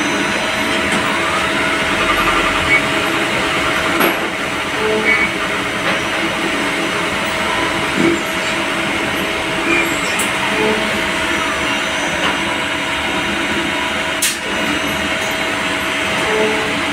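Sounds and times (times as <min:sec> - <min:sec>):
lathe whirring and humming: 0:00.0 - 0:16.9.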